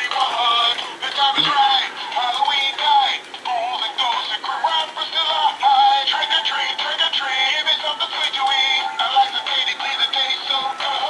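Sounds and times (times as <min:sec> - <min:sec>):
pop song from small speaker: 0:00.0 - 0:11.0.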